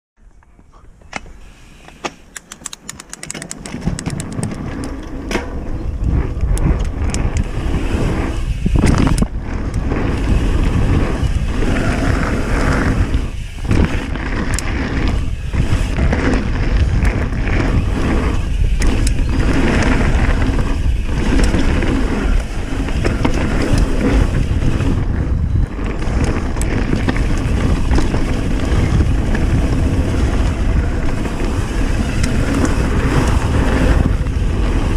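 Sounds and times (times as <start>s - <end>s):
bike rattling over bumps: 2.4s - 34.9s
tyres rumbling over ground: 2.8s - 34.9s
wind buffeting microphone: 2.8s - 34.9s.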